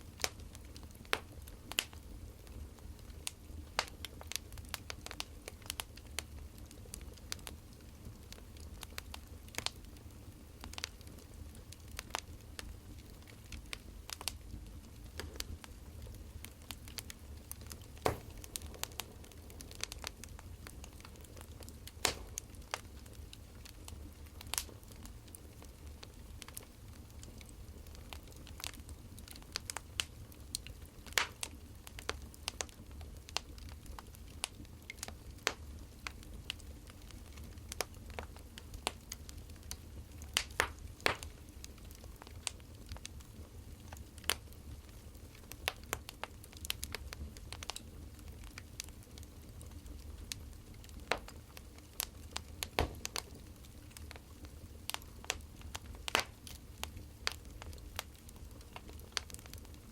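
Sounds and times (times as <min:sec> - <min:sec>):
firewood crackling: 0:00.0 - 0:59.9.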